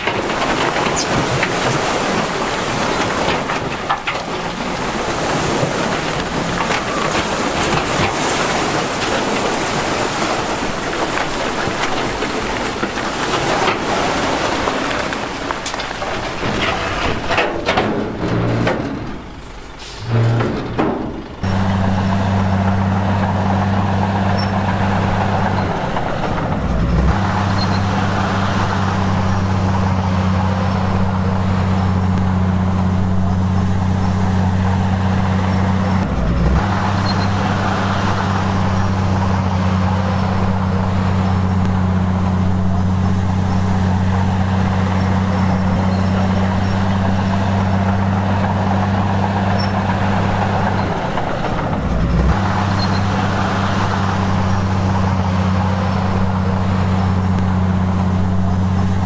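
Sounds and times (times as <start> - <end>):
diesel machinery engine drone: 0.0 - 59.0
knocks and clanks: 0.0 - 59.0.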